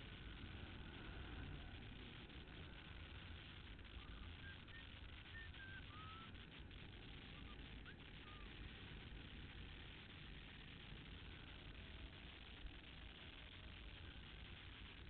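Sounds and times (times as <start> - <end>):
low rumble and hiss: 0.0 - 15.0
faint bird chirps: 0.4 - 15.0.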